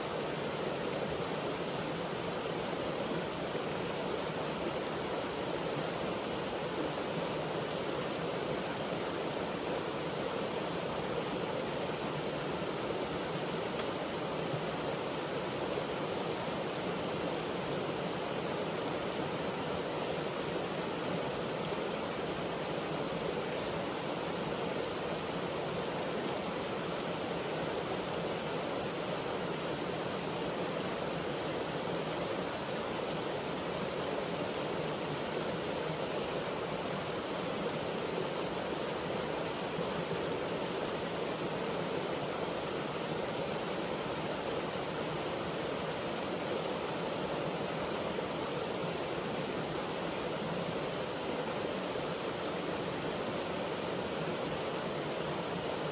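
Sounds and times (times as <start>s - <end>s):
brook water rushing: 0.0s - 55.9s.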